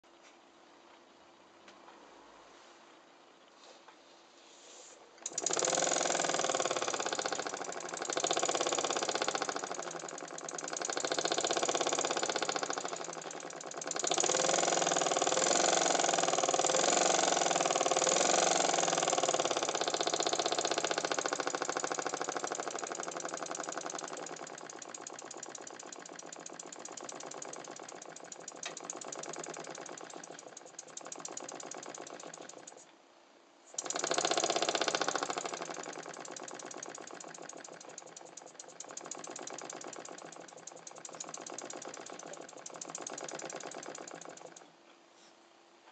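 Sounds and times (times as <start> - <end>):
model steam engine puffing and clattering: 4.6 - 32.9, 33.7 - 44.7.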